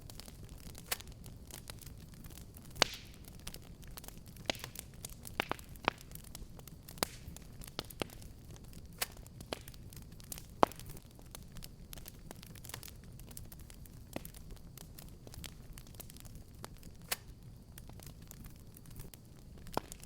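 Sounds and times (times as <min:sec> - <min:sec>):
fire low rumble: 0:00.0 - 0:20.0
wood fire pops and snaps: 0:00.0 - 0:20.0.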